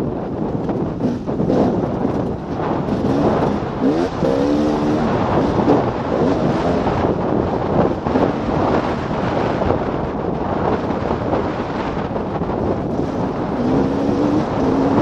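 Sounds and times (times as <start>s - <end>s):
motorcycle engine revving: 0.0s - 15.0s
wind buffeting microphone: 0.0s - 15.0s.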